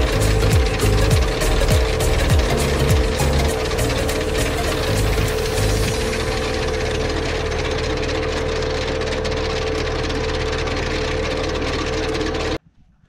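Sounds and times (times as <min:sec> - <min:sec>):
aerator rumbling and rattling: 0:00.0 - 0:12.6
tractor diesel engine running: 0:00.0 - 0:12.6.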